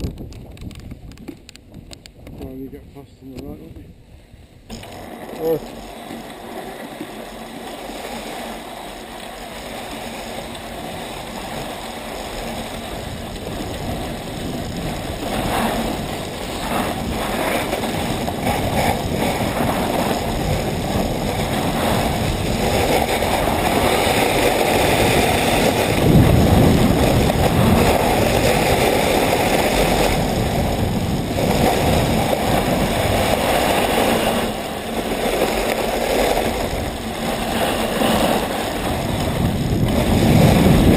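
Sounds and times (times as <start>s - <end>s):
wind rushing on microphone: 0.0s - 5.9s, 9.7s - 40.9s
skis hissing over packed snow: 4.2s - 40.9s.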